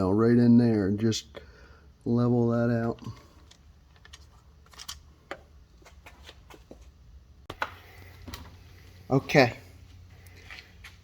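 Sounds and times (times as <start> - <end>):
quiet background hum: 0.0 - 11.0.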